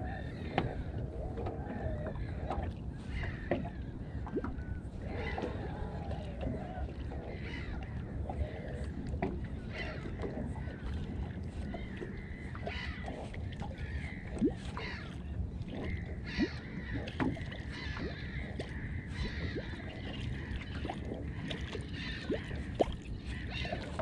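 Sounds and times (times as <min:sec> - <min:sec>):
low steady rumble: 0:00.0 - 0:24.0
waves lapping against boat hull: 0:00.0 - 0:24.0
water plops: 0:01.4 - 0:24.0.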